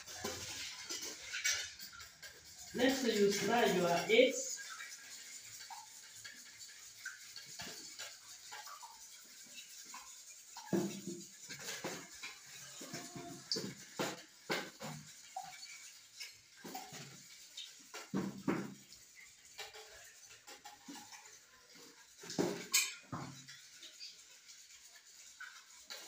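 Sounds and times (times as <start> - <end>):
whisk scraping metal bowl: 0.0 - 26.0.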